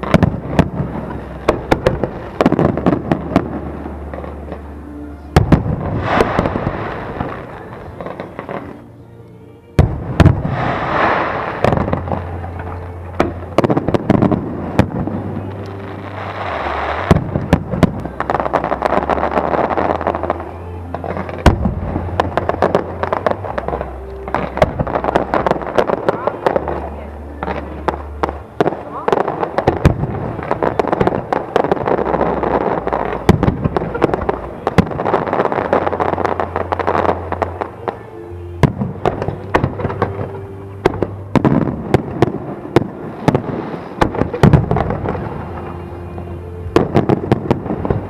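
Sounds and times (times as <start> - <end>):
fireworks bursts and bangs: 0.0 - 4.6, 5.3 - 8.8, 9.8 - 38.0, 38.6 - 48.0
fireworks crackling: 0.0 - 9.0, 9.7 - 48.0.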